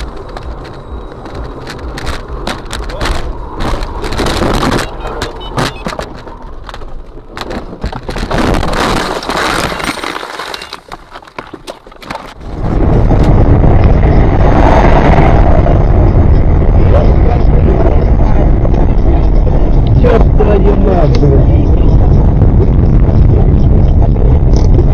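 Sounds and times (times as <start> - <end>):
loud steady low rumble: 0.0 - 10.0, 12.3 - 24.9
vehicle and road noise: 0.0 - 24.9.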